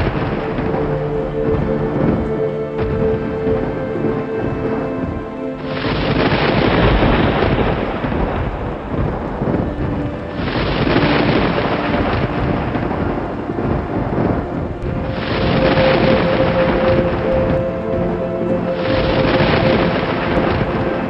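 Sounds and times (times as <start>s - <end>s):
steady rain: 0.0s - 21.0s
thunder rumbling: 0.0s - 21.0s.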